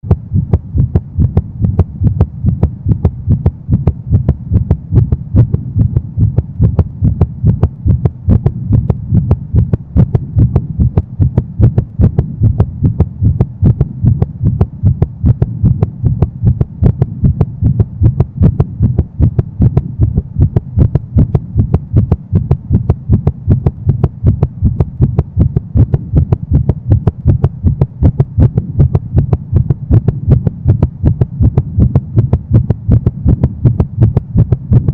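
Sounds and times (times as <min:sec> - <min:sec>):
fast heartbeat thumps: 0:00.0 - 0:34.9.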